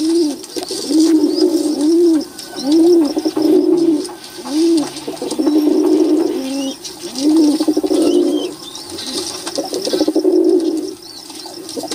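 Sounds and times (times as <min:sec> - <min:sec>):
pigeons cooing: 0:00.0 - 0:11.9.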